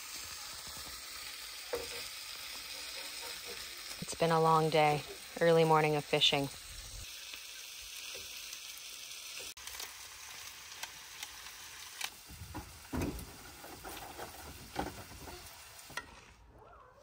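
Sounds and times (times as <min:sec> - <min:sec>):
steady sizzling hiss: 0:00.0 - 0:16.4.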